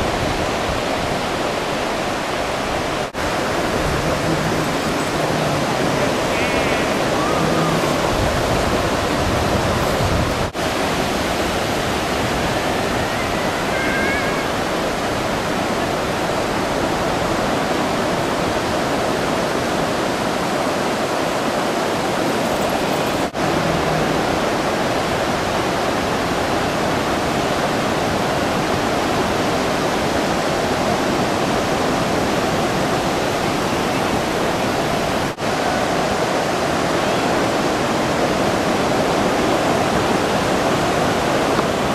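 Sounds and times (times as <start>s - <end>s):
surf breaking on beach: 0.0s - 41.9s.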